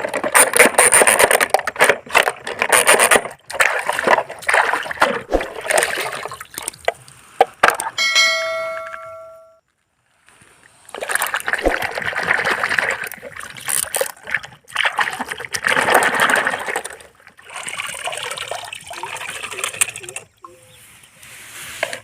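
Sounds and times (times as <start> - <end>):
water splashing and trickling: 2.1 - 8.7, 10.3 - 22.0.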